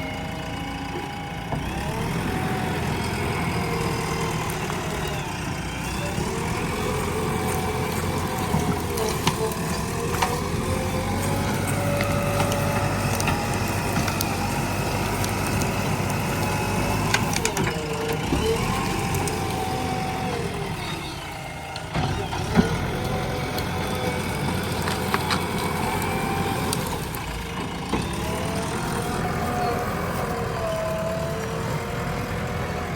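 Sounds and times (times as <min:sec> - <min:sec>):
diesel engine running under load: 0:00.0 - 0:32.9
hydraulic whining tones: 0:00.0 - 0:32.9.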